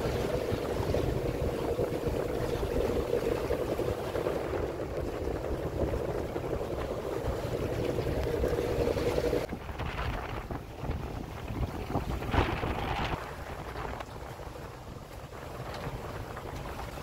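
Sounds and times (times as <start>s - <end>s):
boat engine droning: 0.0s - 17.0s
wind rumbling on microphone: 0.0s - 17.0s.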